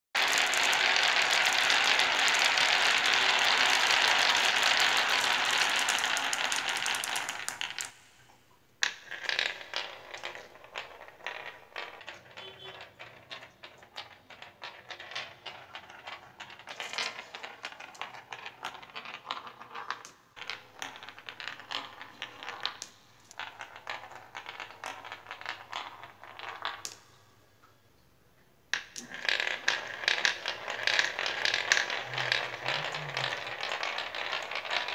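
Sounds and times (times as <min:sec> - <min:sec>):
marbles clicking set down: 0:00.2 - 0:27.2, 0:28.7 - 0:34.9
marbles rolling on wood rumble: 0:00.2 - 0:27.2, 0:28.7 - 0:34.9
marble clattering against track walls: 0:00.2 - 0:27.7, 0:28.7 - 0:34.9.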